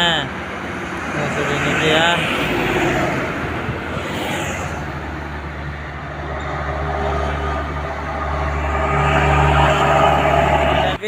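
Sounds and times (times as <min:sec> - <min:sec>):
heavy vehicle engine rumbling: 0:00.0 - 0:11.0.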